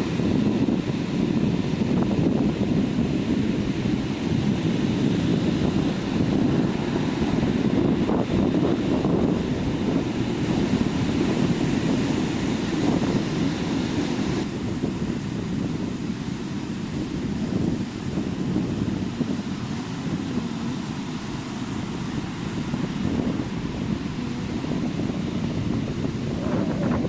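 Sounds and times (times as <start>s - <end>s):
surf breaking on beach: 0.0s - 27.0s
wind rumbling on microphone: 0.0s - 27.0s.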